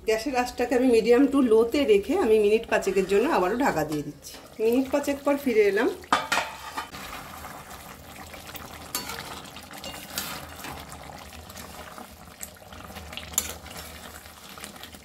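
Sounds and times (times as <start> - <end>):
wet stirring of curry: 2.4 - 15.0.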